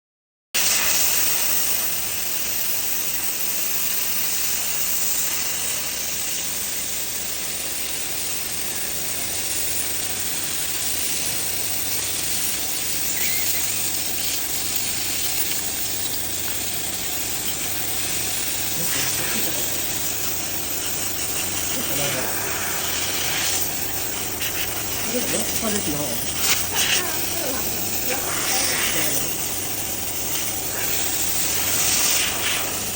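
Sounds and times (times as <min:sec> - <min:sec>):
laser cleaner high hiss: 0:00.6 - 0:32.9.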